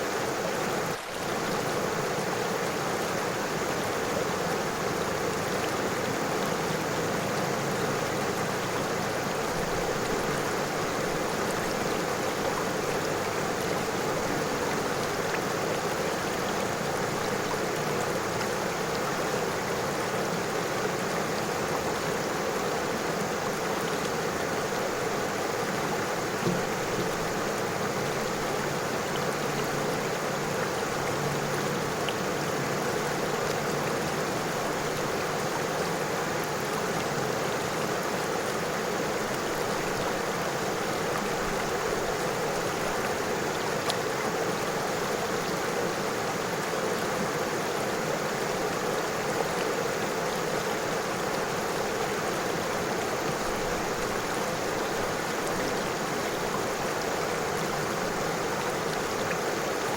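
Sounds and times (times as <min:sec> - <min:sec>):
faint water splashes: 0:00.0 - 0:59.9
river rushing over stones: 0:00.0 - 0:59.9.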